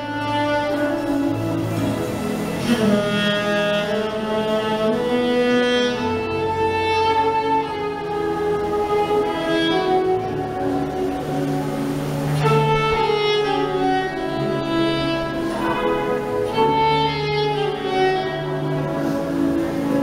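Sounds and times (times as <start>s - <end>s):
slow instrumental processional music: 0.0s - 20.0s.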